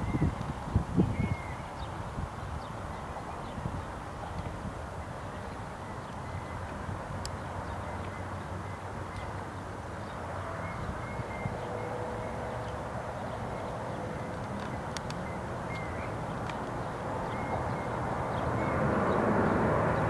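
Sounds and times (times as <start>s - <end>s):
distant jet engine roar: 0.0s - 20.0s.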